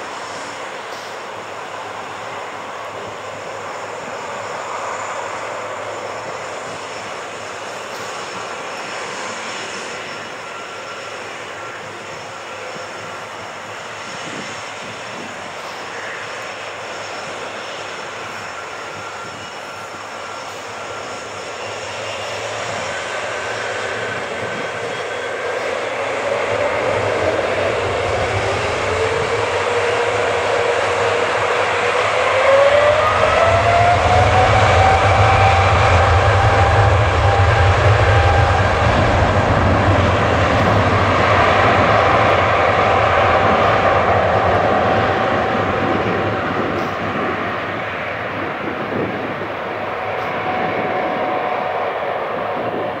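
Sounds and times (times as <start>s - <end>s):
jet engines running: 0.0s - 53.0s
jet engines spooling up whine: 0.0s - 53.0s.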